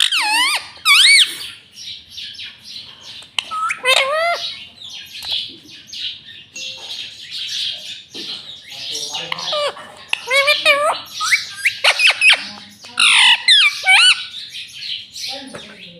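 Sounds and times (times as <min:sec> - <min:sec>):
parakeet chattering: 0:00.0 - 0:15.9.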